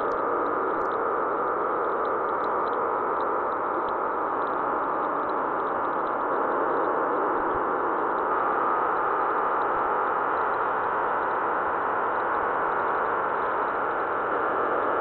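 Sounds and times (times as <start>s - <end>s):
static-like hiss: 0.0s - 15.0s.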